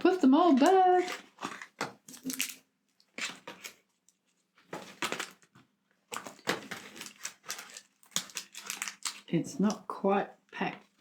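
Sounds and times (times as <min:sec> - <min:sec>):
cardboard game pieces handled: 0:00.0 - 0:09.3.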